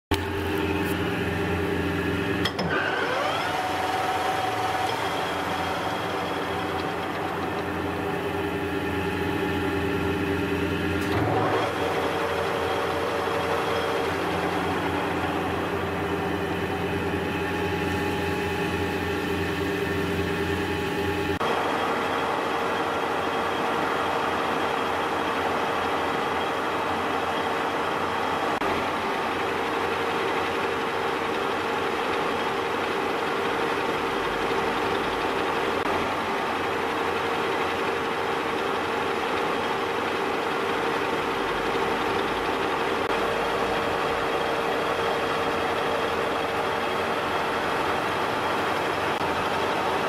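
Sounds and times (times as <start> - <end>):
lathe geared whine and hum: 0.1 - 50.0.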